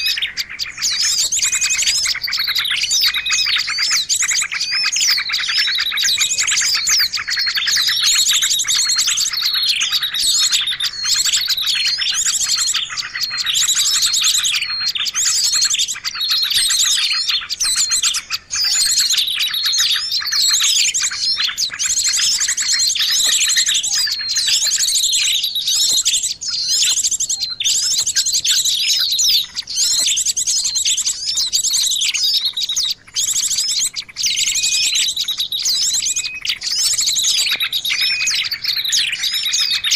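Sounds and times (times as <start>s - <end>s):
small songbirds calling: 0.0s - 39.9s.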